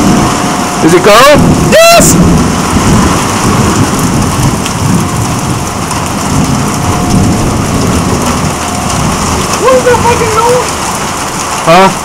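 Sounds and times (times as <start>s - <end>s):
heavy rain pouring: 0.0s - 12.0s
low rumble of thunder: 0.0s - 12.0s.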